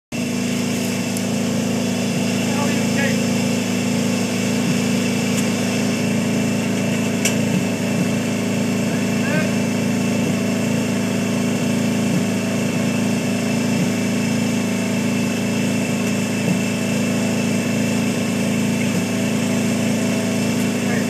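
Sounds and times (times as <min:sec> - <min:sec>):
lawn tractor engine idling: 0:00.1 - 0:21.0.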